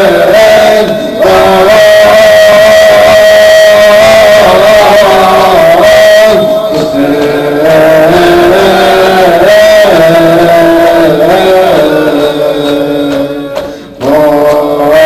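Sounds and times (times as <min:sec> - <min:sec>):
wordless devotional song melody: 0:00.0 - 0:15.0.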